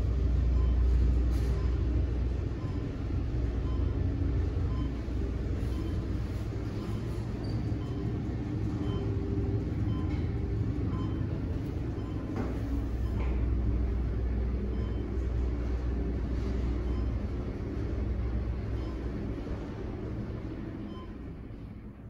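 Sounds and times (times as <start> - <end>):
elevator rumble and hum: 0.0 - 22.0.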